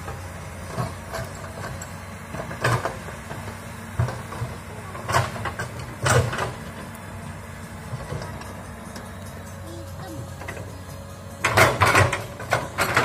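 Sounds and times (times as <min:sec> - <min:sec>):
excavator diesel engine running: 0:00.0 - 0:13.0
excavator bucket clanking: 0:00.1 - 0:06.9, 0:07.8 - 0:13.0.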